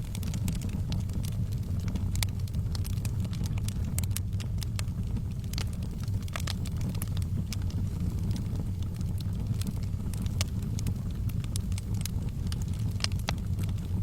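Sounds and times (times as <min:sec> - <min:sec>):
fire rumbling: 0:00.0 - 0:14.0
wood fire crackling and popping: 0:00.0 - 0:14.0.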